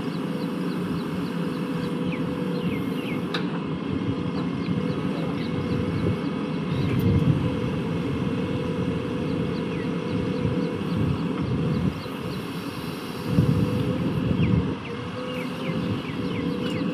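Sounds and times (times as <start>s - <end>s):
heavy diesel engine running: 0.0s - 16.9s.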